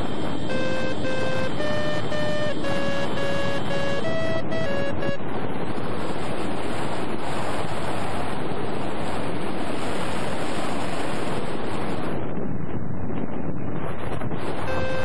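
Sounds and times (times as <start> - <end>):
rushing wind on microphone: 0.0 - 15.0.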